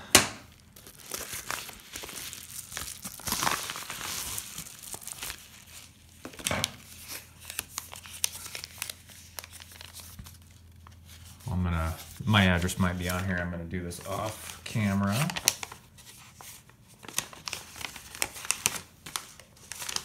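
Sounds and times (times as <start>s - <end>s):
paper packaging crinkling: 0.4s - 20.0s.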